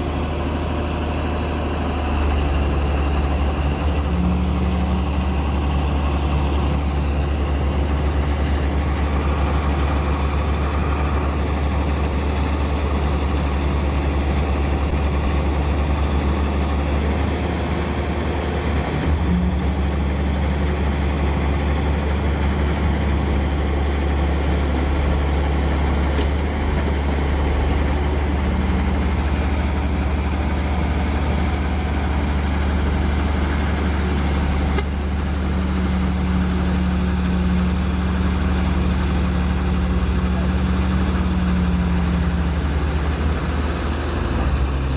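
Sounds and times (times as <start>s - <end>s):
diesel truck engine droning: 0.0s - 44.9s.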